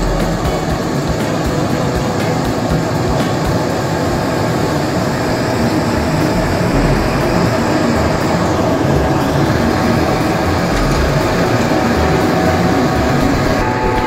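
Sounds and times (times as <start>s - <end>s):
diesel locomotive engine drone: 0.0s - 14.0s
train on rails: 0.0s - 14.0s.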